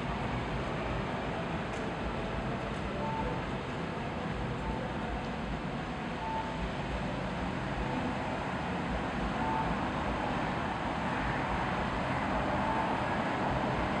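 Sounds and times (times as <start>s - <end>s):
rumble of passing vehicles: 0.0s - 14.0s
traffic hiss: 0.0s - 14.0s.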